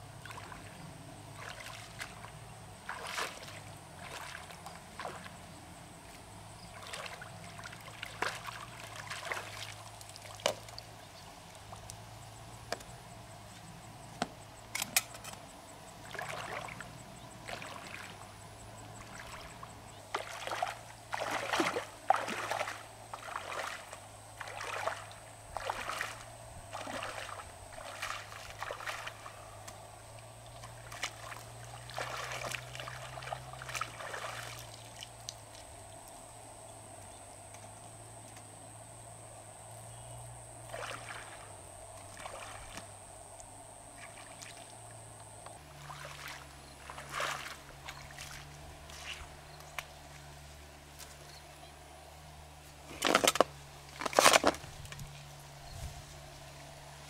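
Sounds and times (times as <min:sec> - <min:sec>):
water sloshing around wading legs: 0:00.0 - 0:36.3, 0:40.6 - 0:57.0.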